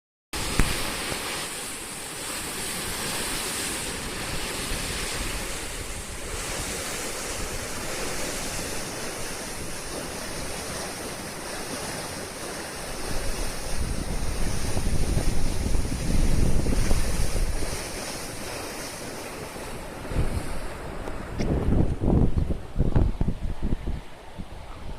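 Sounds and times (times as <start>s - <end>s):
river rushing: 0.4s - 24.4s
wind on microphone: 0.4s - 24.9s.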